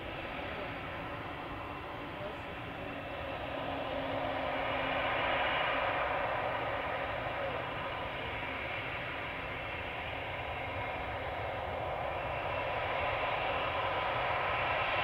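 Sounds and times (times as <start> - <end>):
jet engines rushing hiss: 0.0 - 15.0.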